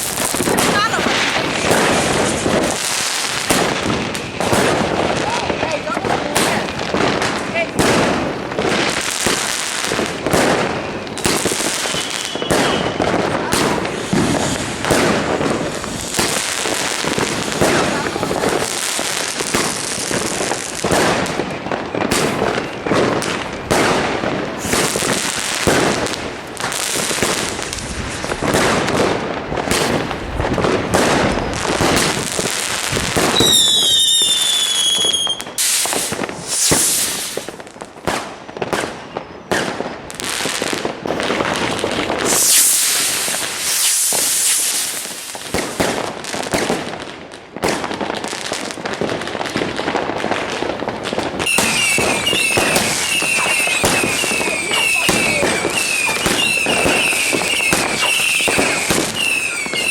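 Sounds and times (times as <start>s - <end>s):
whistling firework: 0.0s - 47.0s, 47.6s - 59.9s
fireworks crackling and banging: 0.0s - 59.9s.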